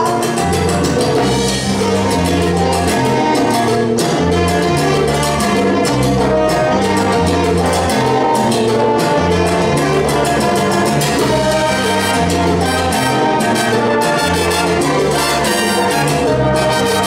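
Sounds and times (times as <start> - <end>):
bass line: 0.0 - 17.0
brass section: 0.0 - 17.0
latin percussion: 0.0 - 17.0.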